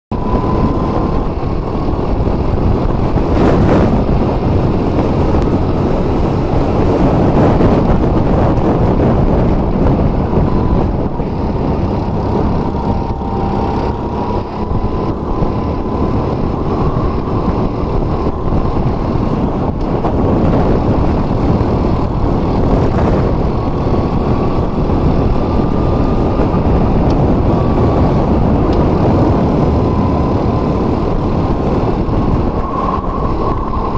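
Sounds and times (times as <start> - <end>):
go-kart engine at racing speed: 0.1 - 33.9.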